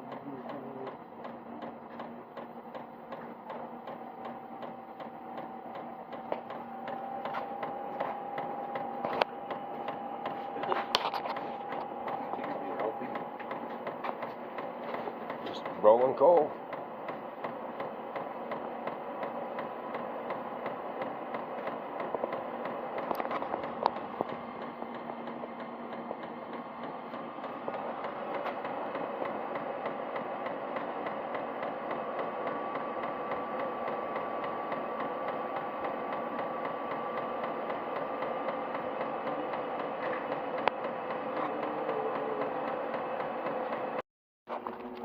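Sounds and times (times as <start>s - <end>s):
heater fan whirring: 0.0s - 45.0s.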